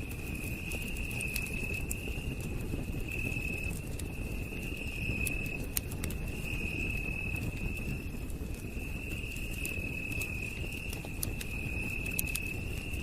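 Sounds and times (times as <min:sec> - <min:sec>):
campfire crackling and popping: 0:00.0 - 0:13.0
night insects trilling: 0:00.0 - 0:13.0.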